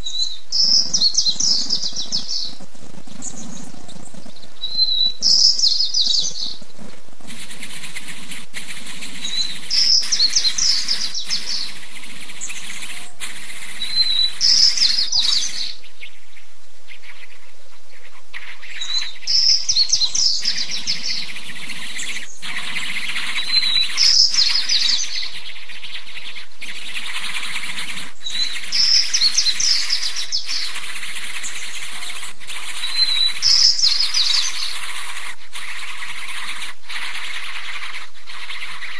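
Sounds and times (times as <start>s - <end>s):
birds chirping: 0.0s - 38.9s
steady high buzz: 0.0s - 38.9s.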